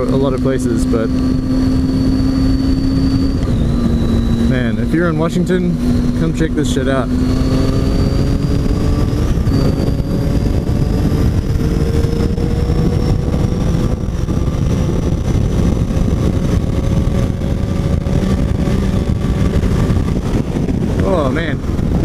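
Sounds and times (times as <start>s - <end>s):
heavy wind: 0.0s - 22.0s
motorcycle engine pulling: 0.0s - 22.0s
road rumble: 0.0s - 22.0s.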